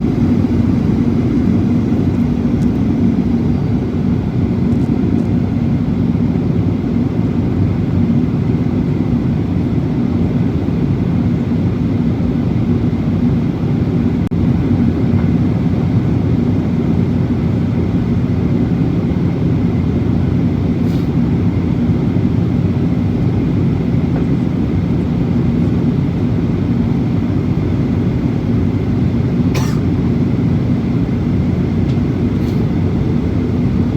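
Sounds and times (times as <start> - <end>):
jet airliner engines rumbling: 0.0 - 33.9.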